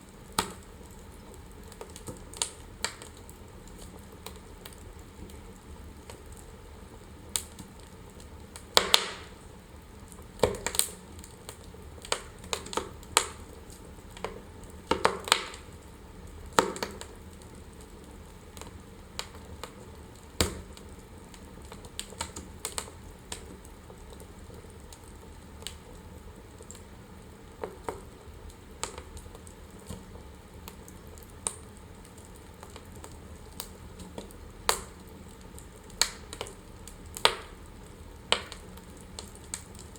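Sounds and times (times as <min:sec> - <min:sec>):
soft steady hiss: 0:00.0 - 0:39.9
wood fire crackling and popping: 0:00.0 - 0:39.9.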